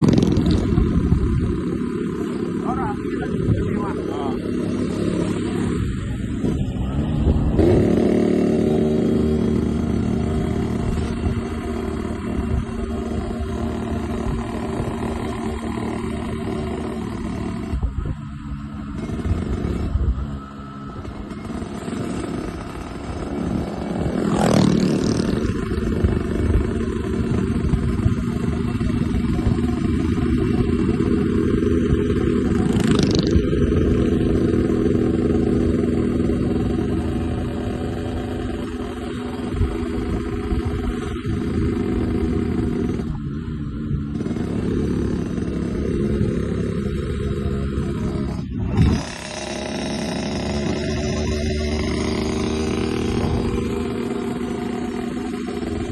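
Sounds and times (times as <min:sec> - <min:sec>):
engine revving: 0:00.0 - 0:55.9
motorcycle engine running: 0:00.0 - 0:55.9.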